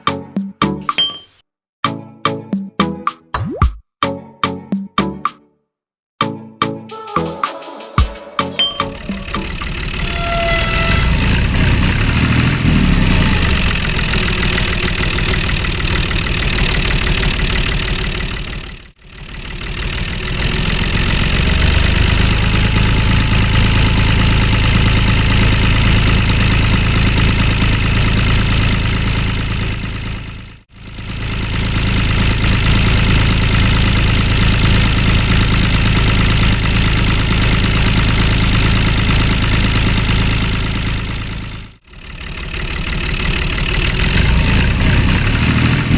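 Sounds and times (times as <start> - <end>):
tractor engine idling: 8.7 - 45.9.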